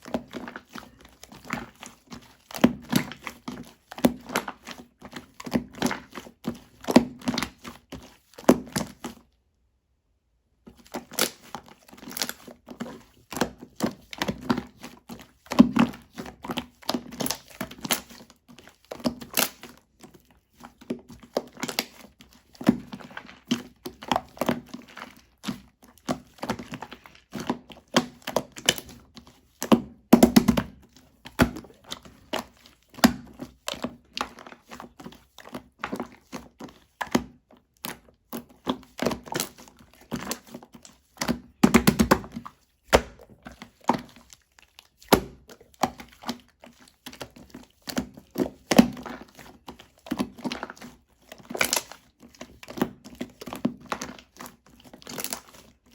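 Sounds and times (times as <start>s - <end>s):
slime squelching by hand: 0.0s - 9.4s, 10.6s - 55.9s.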